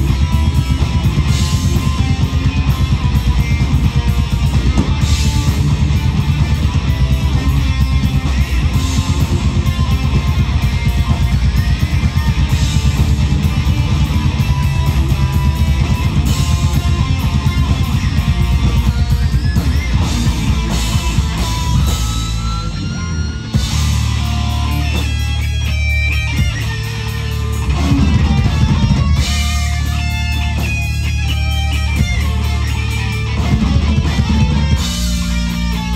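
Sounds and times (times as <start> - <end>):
bass guitar: 0.0 - 35.9
drum kit beat: 0.0 - 35.9
electric guitars: 0.0 - 35.9.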